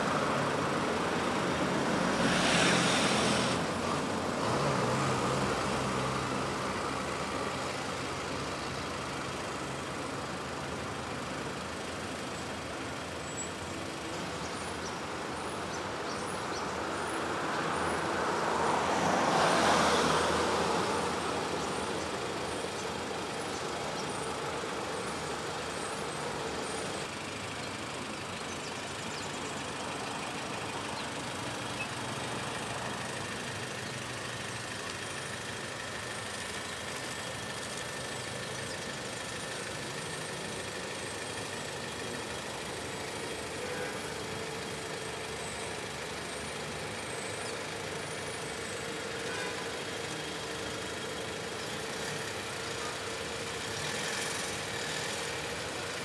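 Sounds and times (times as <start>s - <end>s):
motorcycle and vehicle engines: 0.0s - 56.0s.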